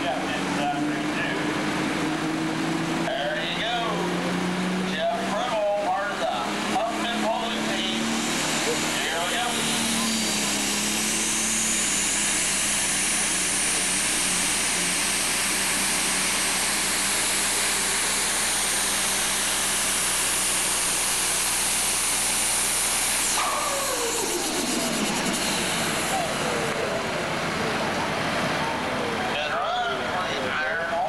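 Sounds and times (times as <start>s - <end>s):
high thin whine: 0.0s - 28.0s
tractor diesel engine roaring: 0.0s - 31.0s.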